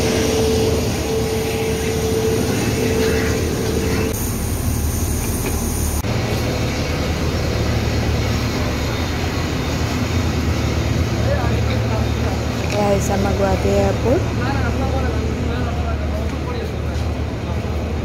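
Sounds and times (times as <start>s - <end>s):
steady whine: 0.0s - 18.0s
vehicle engine rumble: 0.0s - 18.0s.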